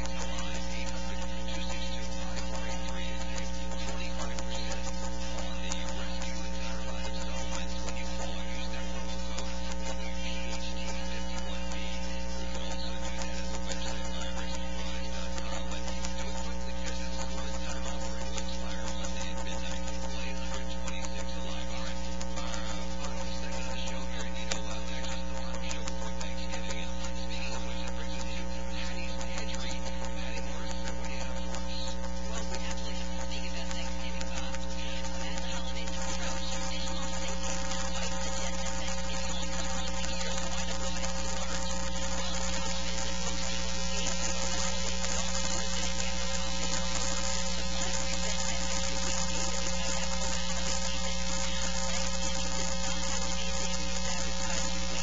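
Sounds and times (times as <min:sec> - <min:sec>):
electrical mains hum and buzz: 0:00.0 - 0:55.0.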